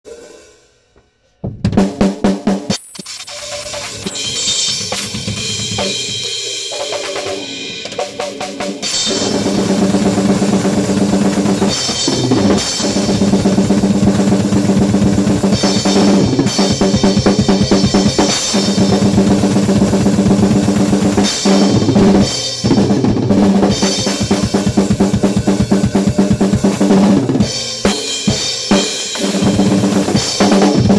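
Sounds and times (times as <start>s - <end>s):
drums and crashing cymbals: 0.0s - 0.7s, 1.5s - 30.9s.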